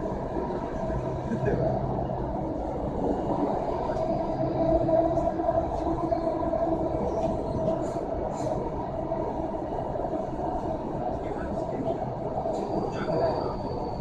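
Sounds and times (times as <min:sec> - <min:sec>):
train whine: 0:00.0 - 0:14.0
wheels rumbling on rail: 0:00.0 - 0:14.0.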